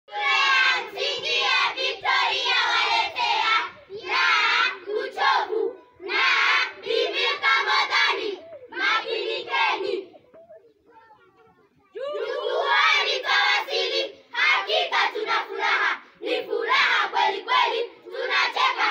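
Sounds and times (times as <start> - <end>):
children singing and chanting: 0.1 - 18.9.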